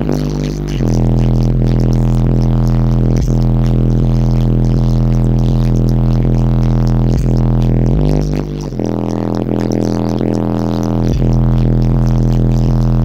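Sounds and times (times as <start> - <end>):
loud bass-heavy music: 0.0 - 13.0.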